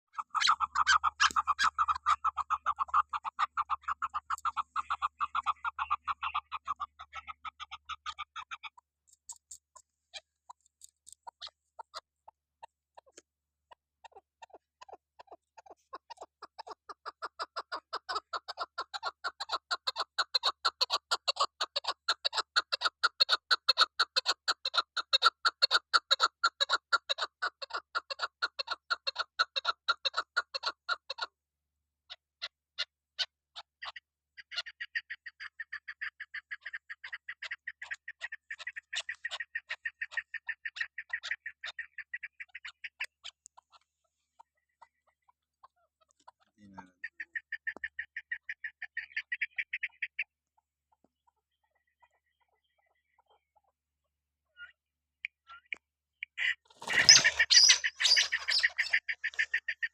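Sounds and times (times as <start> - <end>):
high-pitched bird chattering: 0.1 - 31.3, 32.1 - 43.8, 44.4 - 50.3, 51.2 - 53.8, 54.5 - 59.9
partridge clucking calls: 0.1 - 31.4, 32.4 - 53.7, 54.5 - 59.9.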